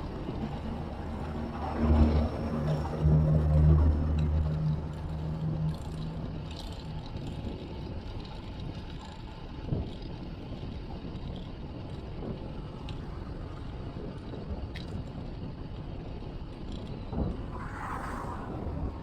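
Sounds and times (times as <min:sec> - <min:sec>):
tyre and road rumble: 0:00.0 - 0:19.0
wind on camera microphone: 0:00.0 - 0:19.0.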